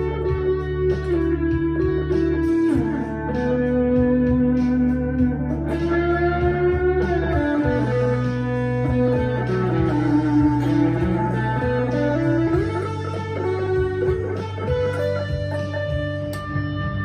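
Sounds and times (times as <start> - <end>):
electric guitar lead with bends: 0.0 - 17.0.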